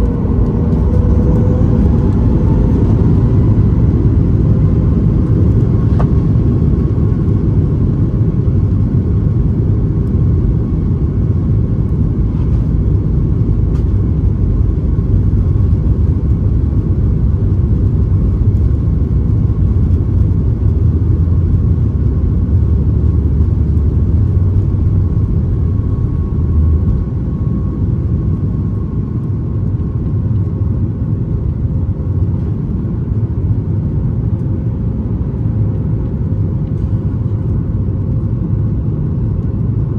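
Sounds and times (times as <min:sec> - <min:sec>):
engine and airflow roar: 0:00.0 - 0:39.9.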